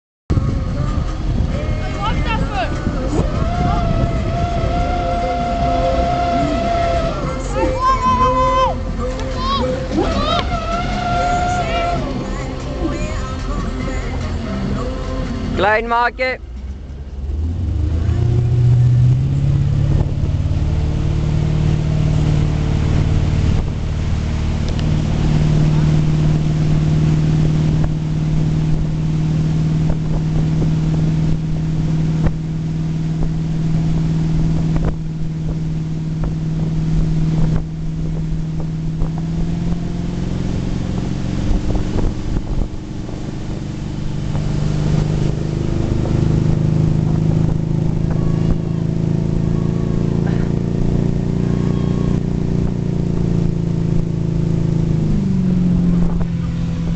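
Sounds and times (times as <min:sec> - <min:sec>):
boat engine running: 0:00.3 - 0:56.9
water noise: 0:00.3 - 0:56.9
wind: 0:00.3 - 0:56.9.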